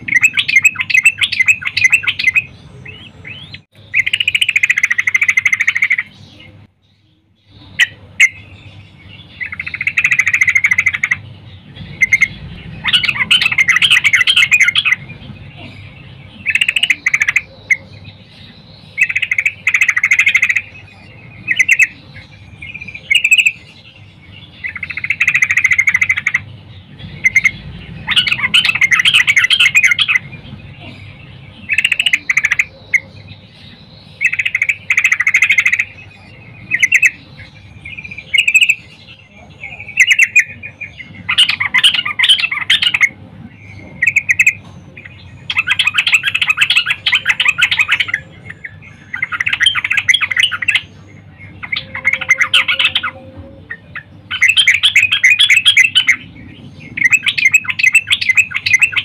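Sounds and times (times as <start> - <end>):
bird chattering calls: 0.0 - 6.7, 7.4 - 59.0.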